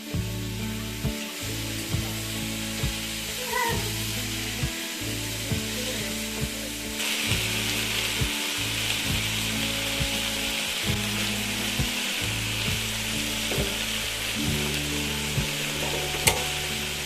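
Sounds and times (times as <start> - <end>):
soft background music: 0.0 - 17.0
steady hiss: 0.0 - 17.0.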